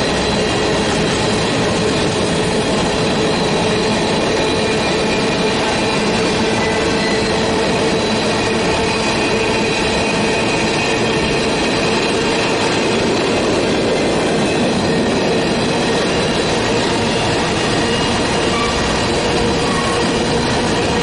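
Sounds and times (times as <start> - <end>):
freight train wheels rumbling on rail: 0.0 - 21.0.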